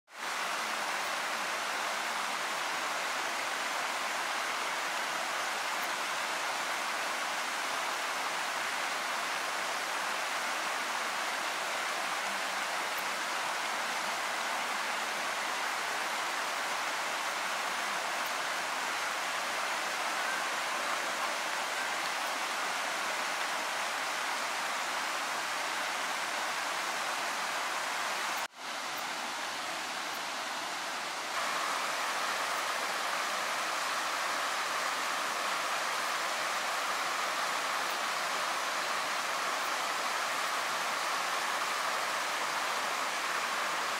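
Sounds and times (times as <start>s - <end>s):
flowing stream water: 0.1s - 43.9s.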